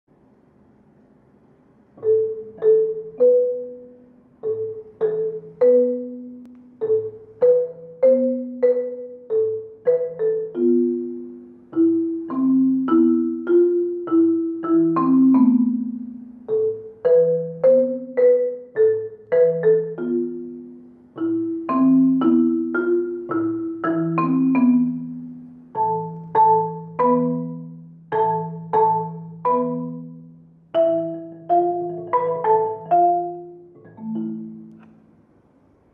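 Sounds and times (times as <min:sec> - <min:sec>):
marimba played with soft mallets: 0:02.0 - 0:35.3.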